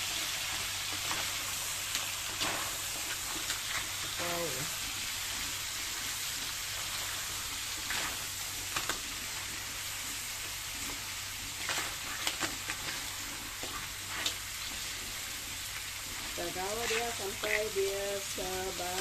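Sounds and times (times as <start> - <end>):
crabs sizzling in a wok: 0.0 - 19.0.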